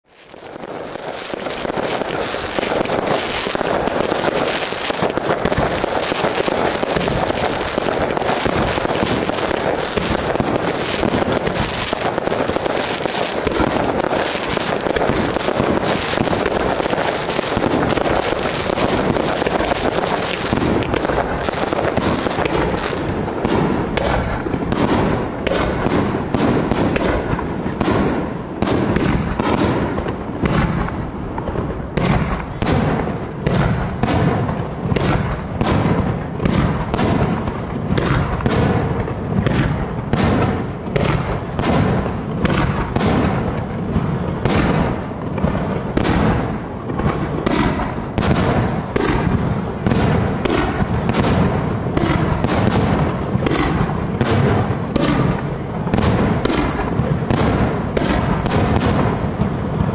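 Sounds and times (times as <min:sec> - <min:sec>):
fireworks bangs: 0:00.1 - 0:59.9.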